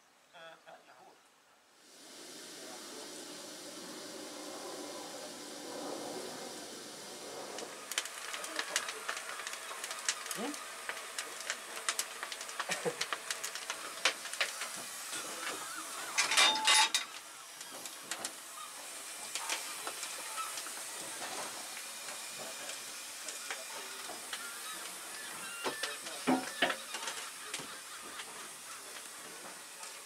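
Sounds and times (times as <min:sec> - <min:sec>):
steam hissing: 0:01.8 - 0:30.0.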